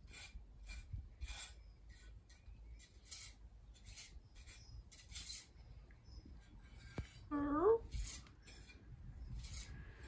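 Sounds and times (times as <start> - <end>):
faint scratchy rubbing strokes: 0.0 - 10.0.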